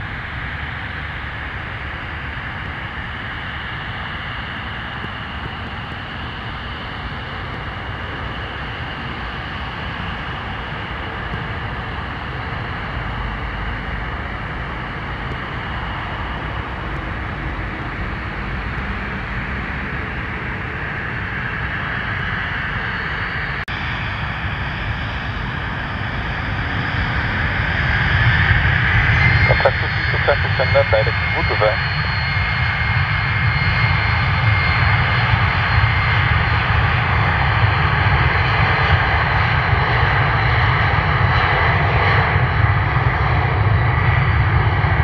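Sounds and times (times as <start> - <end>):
jet engines whining and rumbling: 0.0 - 45.0.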